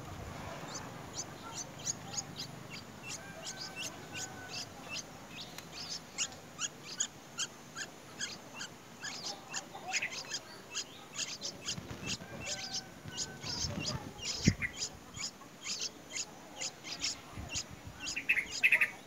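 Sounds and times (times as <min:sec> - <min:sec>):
nestlings peeping: 0:00.0 - 0:19.0.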